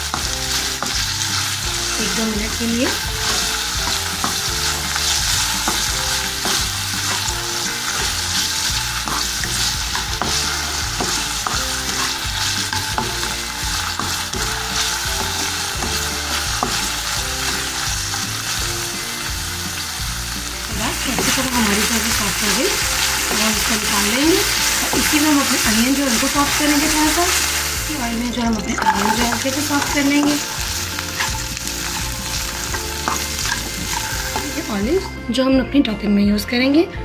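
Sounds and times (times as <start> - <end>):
vegetables sizzling in oil: 0.0 - 35.4
spatula scraping pan: 2.8 - 18.7, 20.7 - 35.0.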